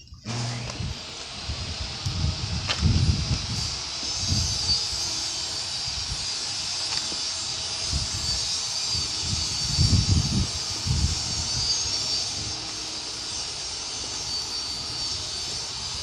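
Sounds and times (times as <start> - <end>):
wind buffeting microphone: 0.2 - 13.2
welding arc hissing: 0.3 - 16.0.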